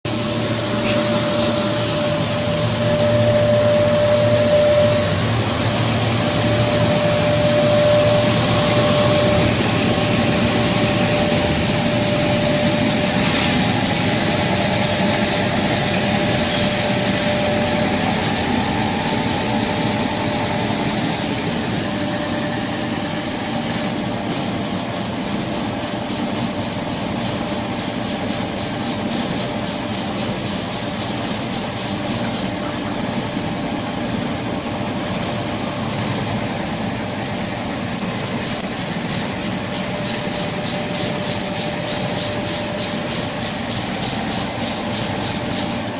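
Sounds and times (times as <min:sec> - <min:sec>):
washing machine running: 0:00.0 - 0:45.9
faint mechanical whine: 0:00.1 - 0:45.9.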